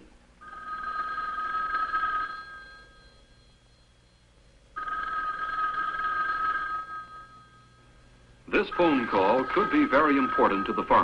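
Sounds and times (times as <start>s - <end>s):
telephone bell ringing: 0.4s - 8.0s, 8.6s - 11.0s.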